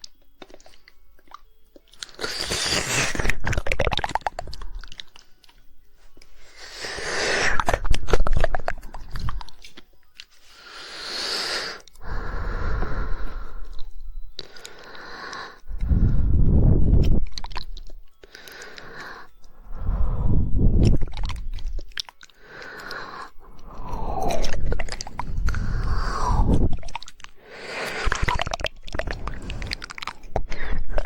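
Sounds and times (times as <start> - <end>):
wet mouth sounds: 0.0 - 5.6, 6.4 - 31.0
rapid tongue clicks: 0.0 - 31.0.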